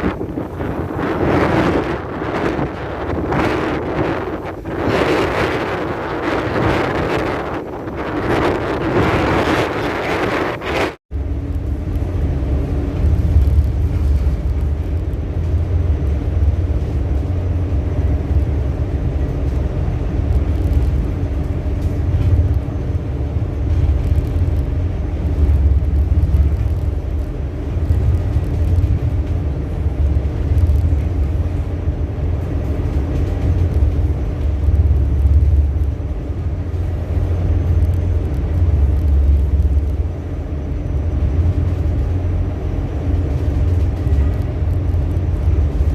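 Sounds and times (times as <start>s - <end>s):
ship engine low rumble: 0.0s - 45.9s.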